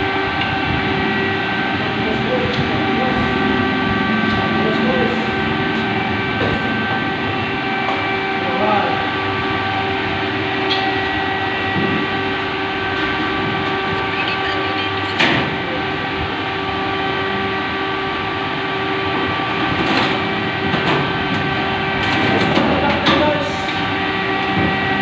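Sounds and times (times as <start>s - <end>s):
machine hum: 0.0s - 25.0s
noisy rush: 0.0s - 25.0s.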